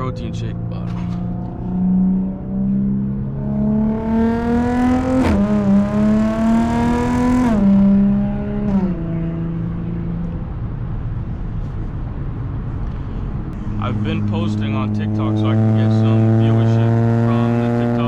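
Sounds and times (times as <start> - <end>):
car engine accelerating hard: 0.0 - 11.7, 12.8 - 18.0.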